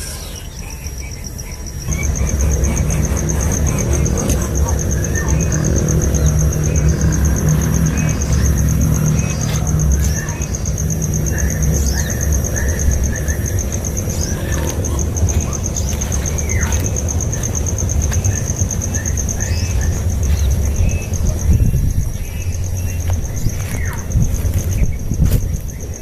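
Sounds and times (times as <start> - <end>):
bird chirps: 0.0 - 26.0
high insect trill: 0.0 - 26.0
low rumble of wind: 0.0 - 26.0.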